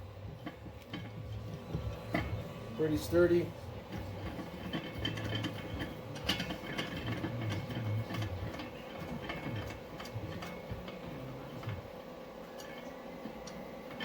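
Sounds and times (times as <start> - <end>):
metal clicks and scraping: 0.4 - 11.9.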